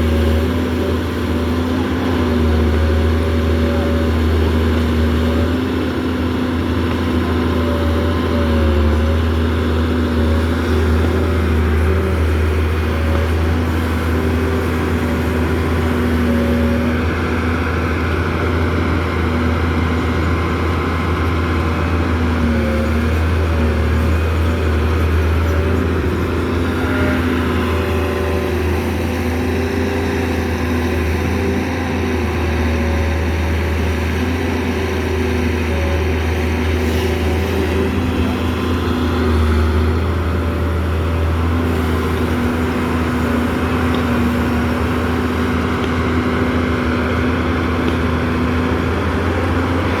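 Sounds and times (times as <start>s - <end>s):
diesel engine running under load: 0.0s - 50.0s.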